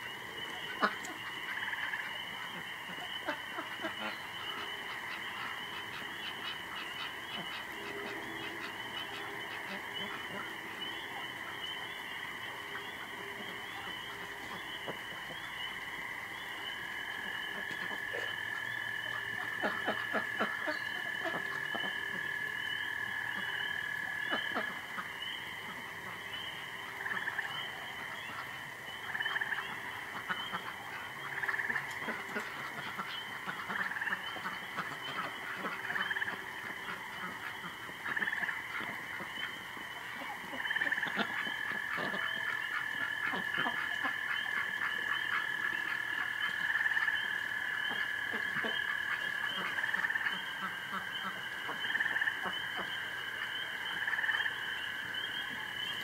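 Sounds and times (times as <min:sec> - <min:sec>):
frogs chorus ringing: 0:00.0 - 0:56.0
frogs croaking: 0:00.0 - 0:56.0.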